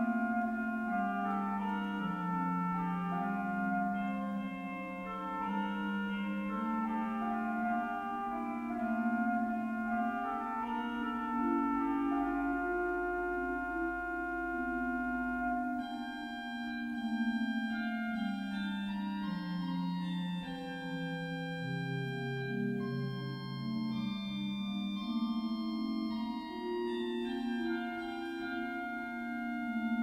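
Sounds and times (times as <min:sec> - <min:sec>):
slow organ chorale: 0:00.0 - 0:30.0.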